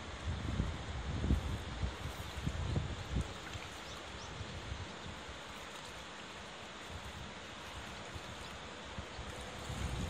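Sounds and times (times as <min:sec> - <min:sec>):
wind buffeting microphone: 0:00.0 - 0:05.4, 0:06.8 - 0:10.0
river rushing: 0:00.0 - 0:10.0.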